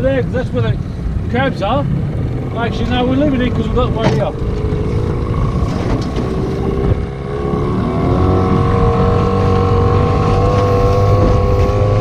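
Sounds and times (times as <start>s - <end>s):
motorboat engine: 0.0s - 12.0s
wind buffeting microphone: 0.0s - 12.0s.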